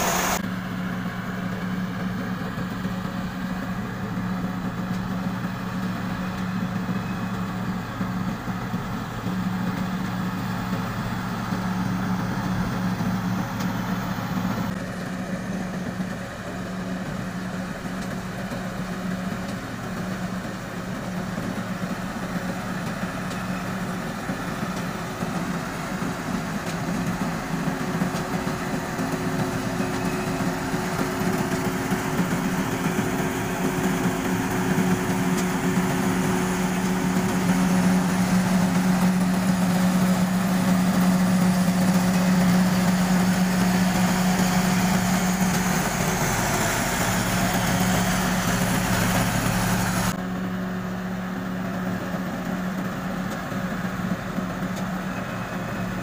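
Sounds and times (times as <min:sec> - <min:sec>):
rushing harvester mechanism: 0:00.0 - 0:50.5
combine harvester engine hum: 0:00.0 - 0:56.0.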